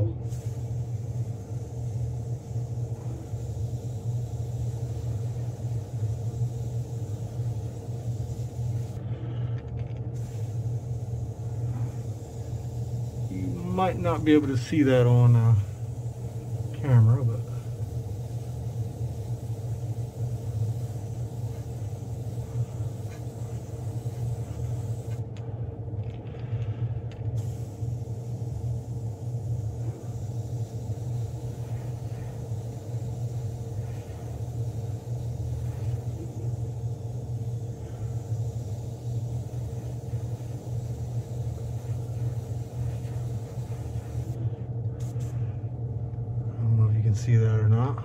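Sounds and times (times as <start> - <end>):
low motor hum: 0.0 - 47.7.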